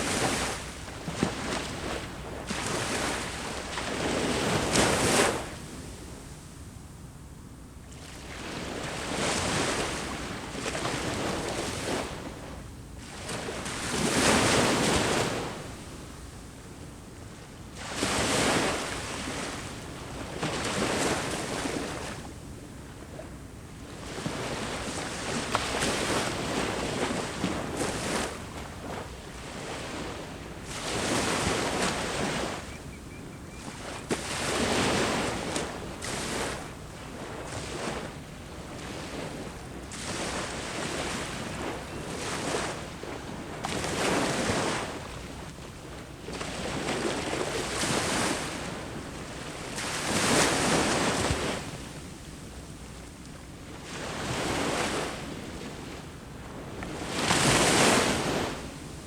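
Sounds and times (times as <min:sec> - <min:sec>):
sea waves breaking on shore: 0:00.0 - 0:06.3, 0:08.0 - 0:16.6, 0:17.3 - 0:59.0.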